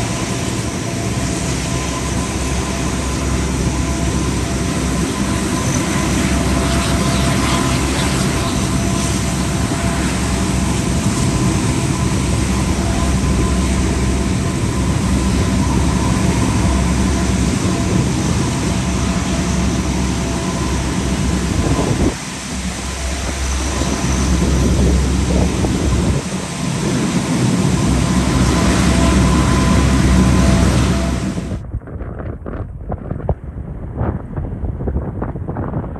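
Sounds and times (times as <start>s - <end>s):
turboprop engines droning: 0.0s - 35.9s.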